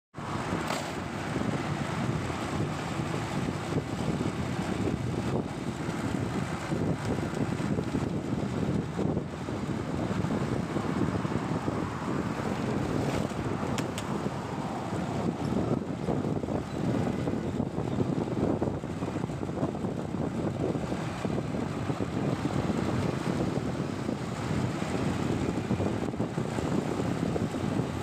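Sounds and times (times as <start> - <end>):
traffic noise: 0.2 - 28.0
wind buffeting microphone: 0.2 - 28.0.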